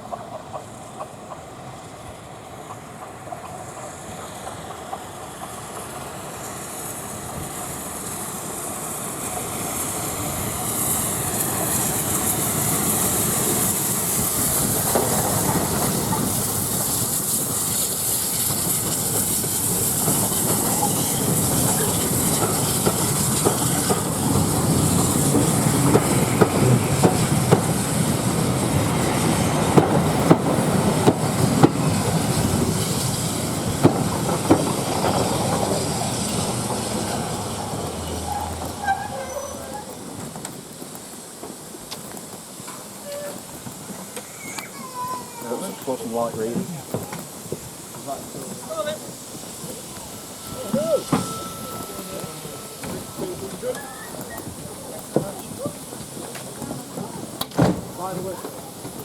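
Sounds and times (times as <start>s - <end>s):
hiss of steam: 0.0s - 59.0s
steam locomotive approaching: 0.0s - 59.0s
wheels clicking over rail joints: 0.0s - 59.0s.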